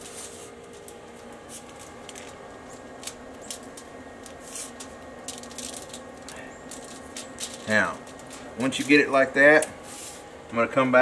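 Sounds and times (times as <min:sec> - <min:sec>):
aluminum foil crinkling: 0:00.0 - 0:10.2.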